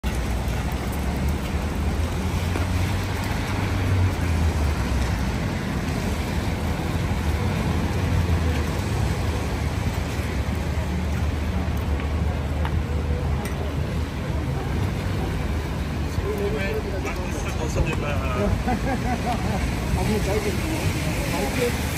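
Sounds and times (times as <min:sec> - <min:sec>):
low traffic rumble: 0:00.0 - 0:21.9
tyres on wet pavement: 0:00.0 - 0:21.9.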